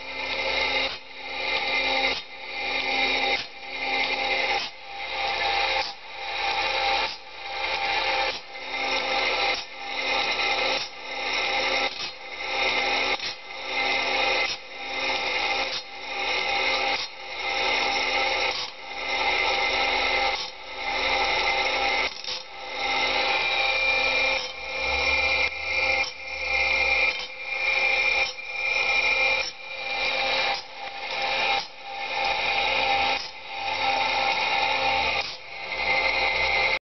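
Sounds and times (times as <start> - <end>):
saw sharpening machine grinding: 0.0 - 36.8.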